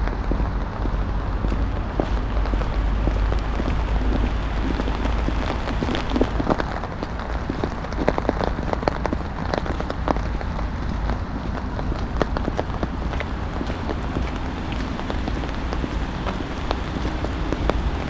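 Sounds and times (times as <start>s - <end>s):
sleet and rain ticking: 0.0s - 18.0s
steady low rumble: 0.0s - 18.0s.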